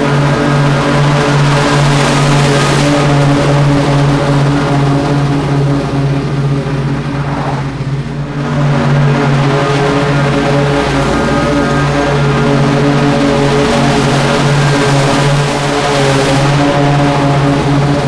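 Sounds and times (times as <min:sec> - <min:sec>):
lawn mower engine: 0:00.0 - 0:18.0.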